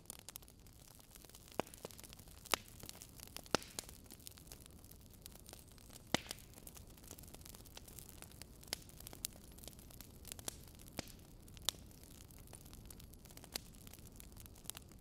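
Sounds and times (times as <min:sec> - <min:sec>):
faint steady hiss: 0:00.0 - 0:15.0
wood fire crackling: 0:00.0 - 0:15.0.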